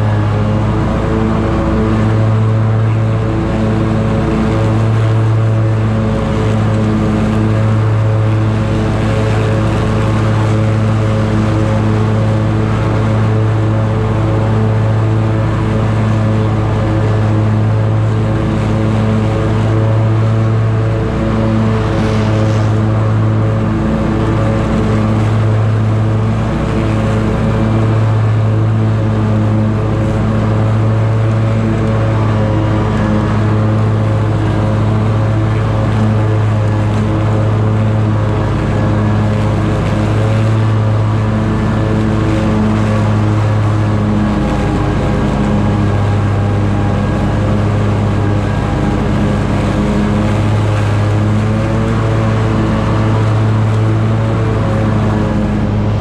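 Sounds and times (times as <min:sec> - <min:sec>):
lawn mower cutting grass: 0:00.0 - 0:56.0.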